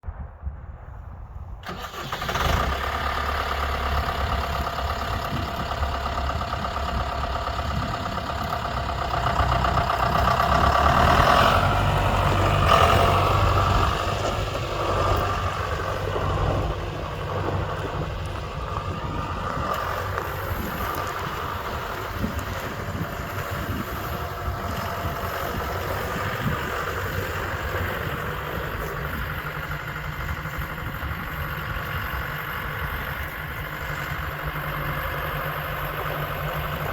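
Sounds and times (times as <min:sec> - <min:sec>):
tractor diesel engine running: 0:01.2 - 0:36.9.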